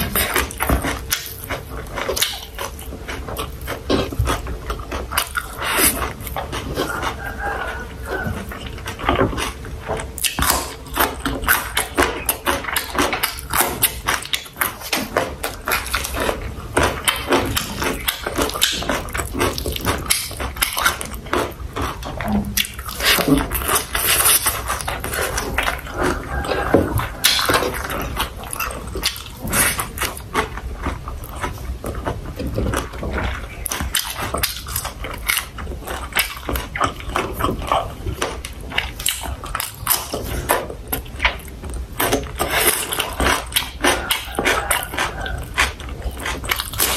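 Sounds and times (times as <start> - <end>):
wet chewing and lip smacking: 0.0 - 46.9.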